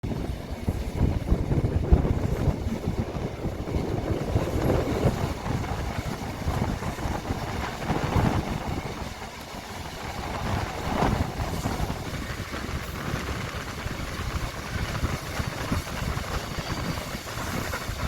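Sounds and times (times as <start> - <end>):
train rumbling: 0.0 - 18.0
wind buffeting microphone: 0.0 - 18.0.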